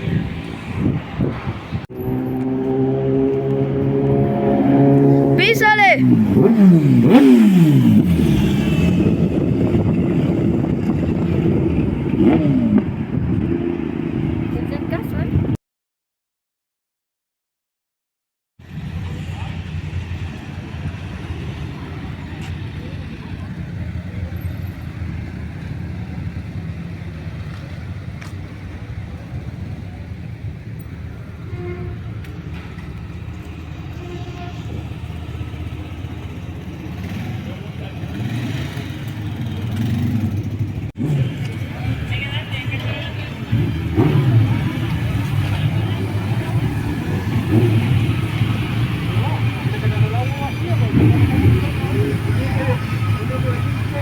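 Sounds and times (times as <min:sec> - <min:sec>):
motorcycle engine revving: 0:00.0 - 0:15.4, 0:18.6 - 0:54.0.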